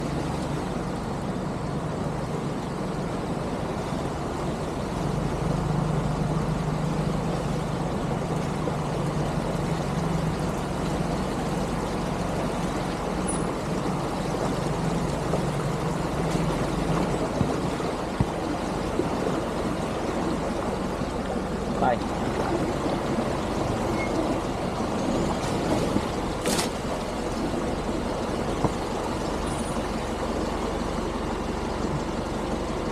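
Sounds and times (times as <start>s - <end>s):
road noise: 0.0s - 32.9s
vehicle engine droning: 0.0s - 32.9s.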